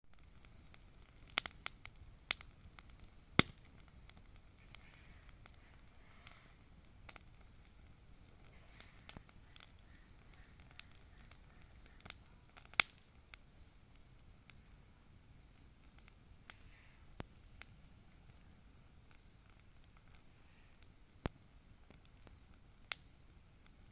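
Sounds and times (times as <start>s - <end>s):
wood bonfire crackling: 0.0s - 23.9s
sharp pops of fire: 0.1s - 14.8s, 15.5s - 23.9s.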